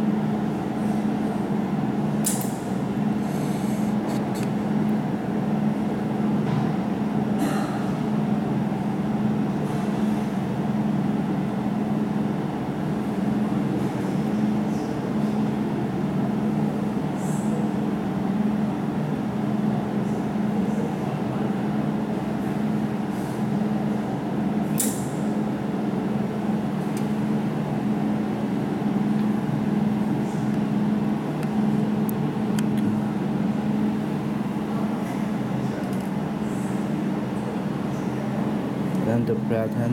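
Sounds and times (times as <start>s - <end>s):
machine fan humming: 0.0s - 39.9s.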